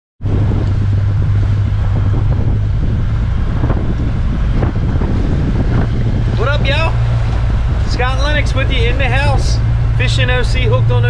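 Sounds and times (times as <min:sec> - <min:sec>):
outboard motor running: 0:00.2 - 0:11.0
wind buffeting microphone: 0:00.2 - 0:11.0.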